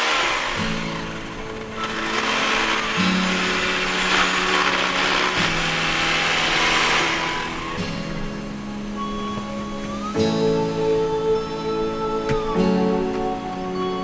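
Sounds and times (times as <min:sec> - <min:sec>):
steady hiss: 0:00.0 - 0:14.0
background music chords: 0:00.4 - 0:14.0.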